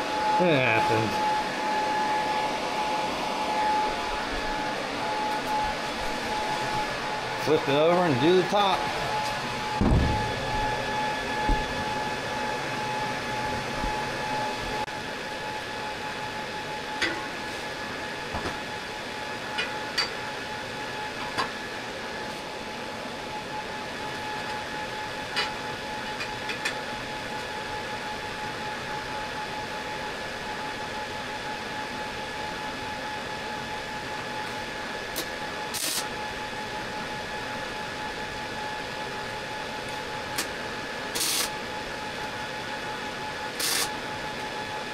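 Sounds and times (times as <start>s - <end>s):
machine hum with high whine: 0.0s - 44.9s.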